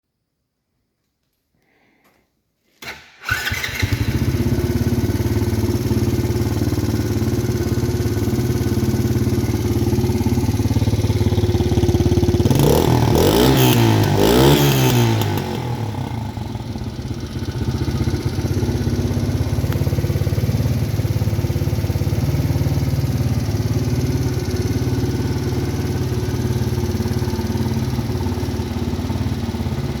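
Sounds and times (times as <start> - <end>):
four-stroke engine idling and revving: 3.2 - 30.0.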